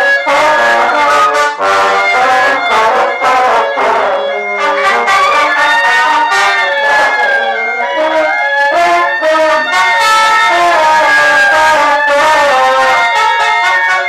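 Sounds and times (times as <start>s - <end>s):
french horn playing a lively tune: 0.0s - 14.0s
trumpet and brass: 0.0s - 14.0s.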